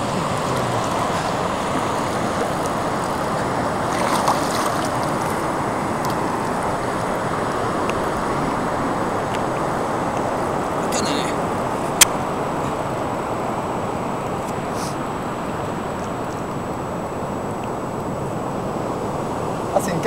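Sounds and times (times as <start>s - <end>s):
river water rushing: 0.0s - 20.0s
wind: 0.0s - 20.0s.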